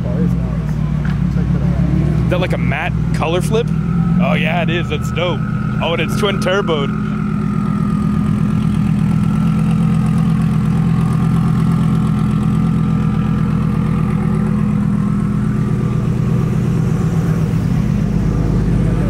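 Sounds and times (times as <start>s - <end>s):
sports car engine idling: 0.0s - 19.0s.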